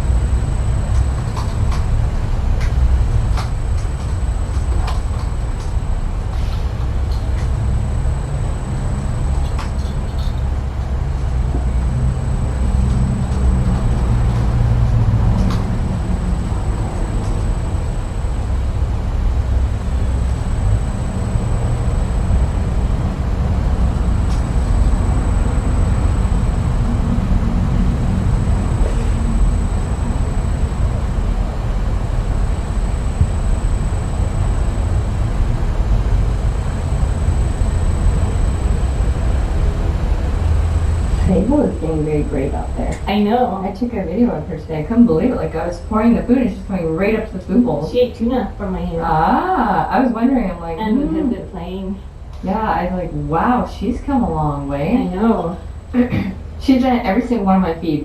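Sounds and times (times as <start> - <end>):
thin high steady tone: 0.0 - 2.6, 3.6 - 58.0
steady low rumble: 0.0 - 58.0.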